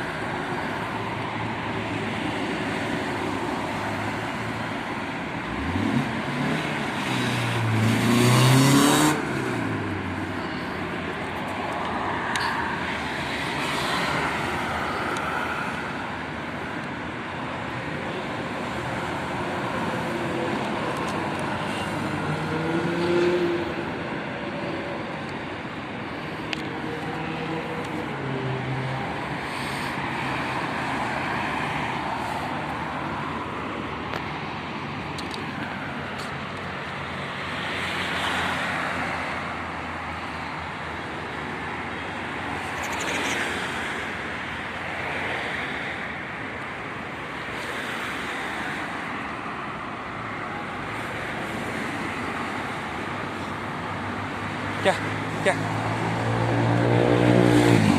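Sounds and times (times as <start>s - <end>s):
rumble of passing cars: 0.0s - 57.9s.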